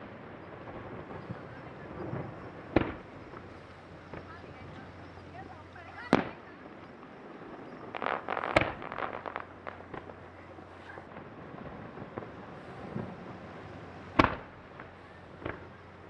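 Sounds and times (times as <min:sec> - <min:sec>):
firework shells bursting: 0:00.0 - 0:16.0
rapid crackling pops: 0:00.0 - 0:16.0.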